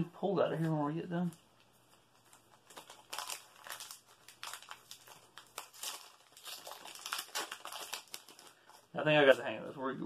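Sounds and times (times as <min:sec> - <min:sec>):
foil wrappers crinkling: 0:00.5 - 0:09.6.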